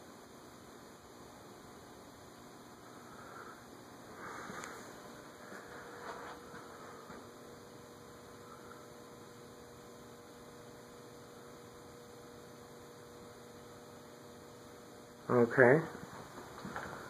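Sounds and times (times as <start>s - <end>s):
faint electrical mains hum: 0.0s - 17.0s.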